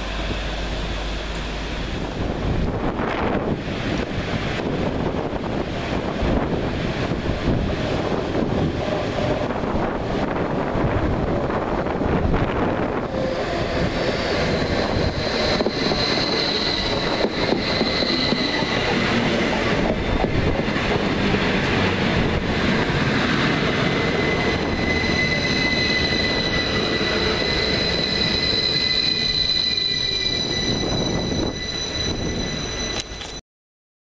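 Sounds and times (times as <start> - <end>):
high-pitched train whine: 0.0 - 33.4
train wheels rumbling on rails: 0.0 - 33.4.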